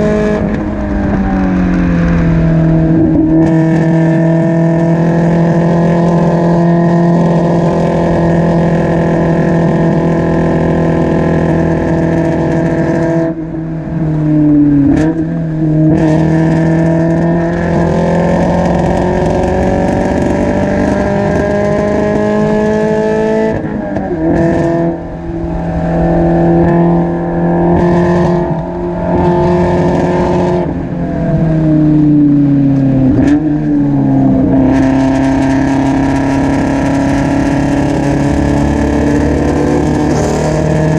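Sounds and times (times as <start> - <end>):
race car engine at high revs: 0.0 - 40.9.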